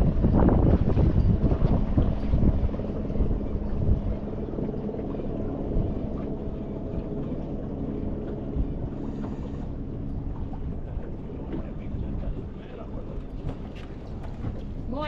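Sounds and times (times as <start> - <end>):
low steady hum: 0.0 - 15.0
wind rumbling on microphone: 0.0 - 15.0.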